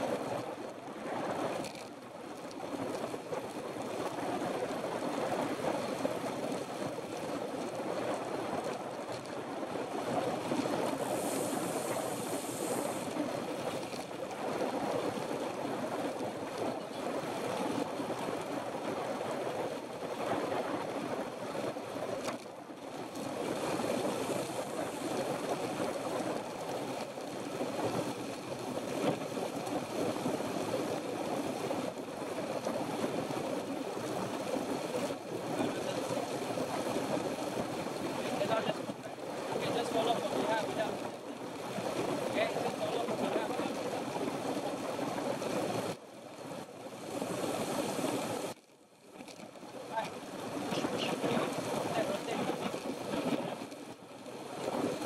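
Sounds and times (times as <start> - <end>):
bike tyre noise: 0.0 - 55.0
wind on microphone: 0.0 - 55.0.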